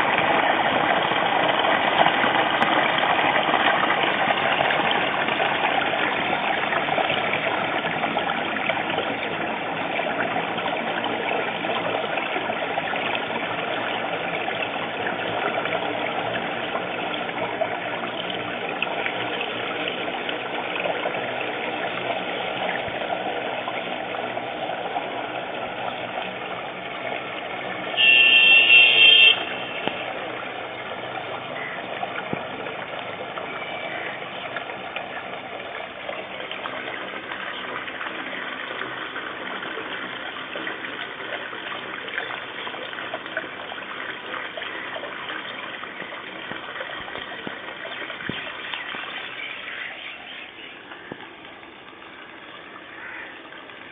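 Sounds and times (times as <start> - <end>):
water running from drainpipe: 0.0 - 53.9.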